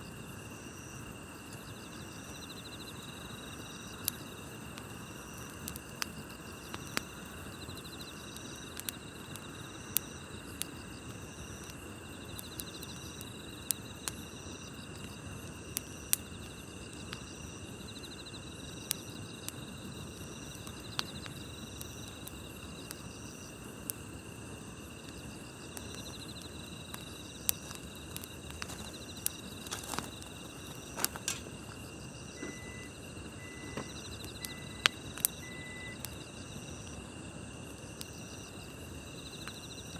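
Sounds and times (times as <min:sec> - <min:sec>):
insect pulsing trill: 0:00.0 - 0:39.9
night insects chirping: 0:00.0 - 0:39.9
campfire crackling and popping: 0:00.1 - 0:39.9.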